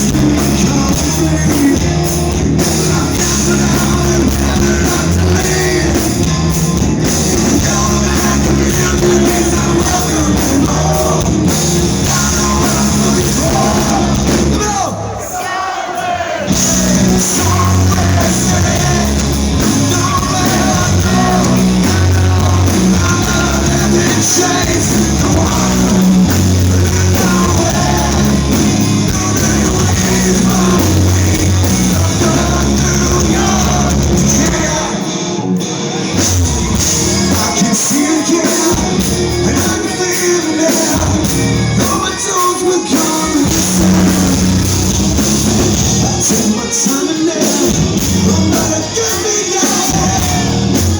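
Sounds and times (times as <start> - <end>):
live band playing loud: 0.0 - 50.9
person singing: 2.6 - 6.3, 7.0 - 15.5, 16.4 - 35.5, 36.8 - 44.6, 45.6 - 50.9.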